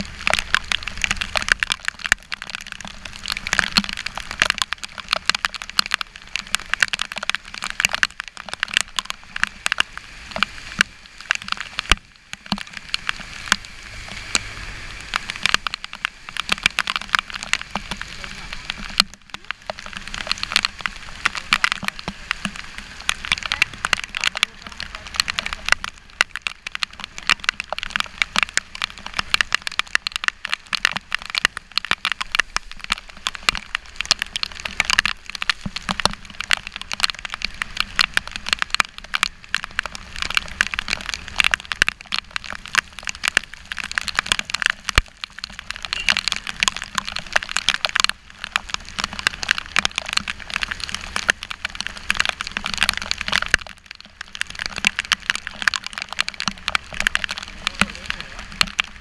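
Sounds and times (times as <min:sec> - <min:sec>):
rain hitting camera housing: 0:00.0 - 0:59.0.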